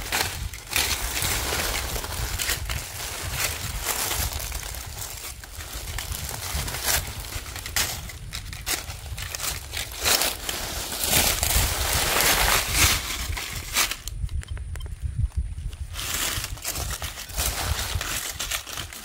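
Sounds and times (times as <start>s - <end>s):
dry leaves crackling and rustling: 0.0s - 14.2s, 15.8s - 19.0s.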